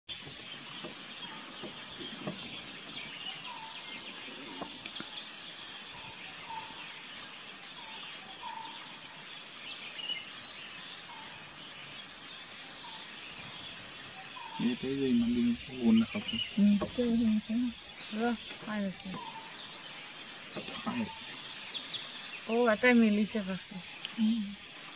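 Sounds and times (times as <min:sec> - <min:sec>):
birds chirping: 0:00.1 - 0:24.9
steady high-pitched hiss: 0:00.1 - 0:24.9.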